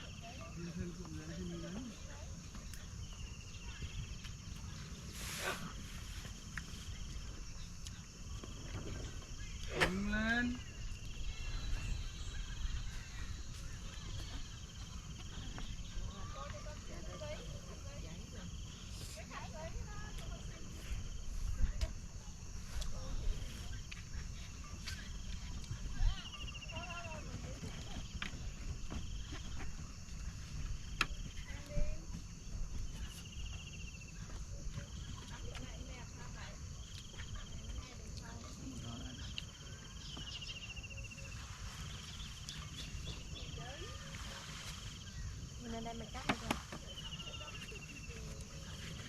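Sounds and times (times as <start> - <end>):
insect chirping trills: 0.0 - 49.0.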